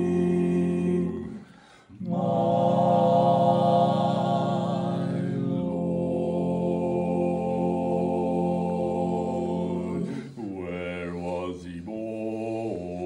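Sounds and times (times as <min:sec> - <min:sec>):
men's quartet singing a cappella: 0:00.0 - 0:13.0.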